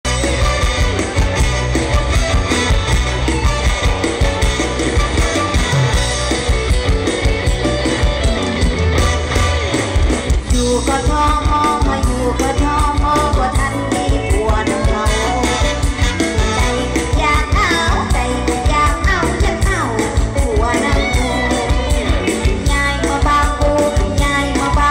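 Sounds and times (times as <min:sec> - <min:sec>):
stage band music through loudspeakers: 0:00.0 - 0:24.9.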